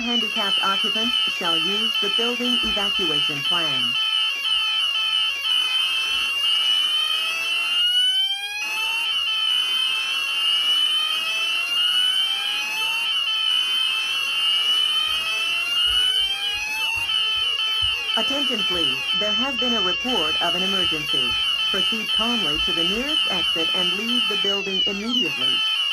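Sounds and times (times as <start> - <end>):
fast alarm sweeps: 0.0 - 25.9
fire alarm whooping tone: 0.0 - 25.9.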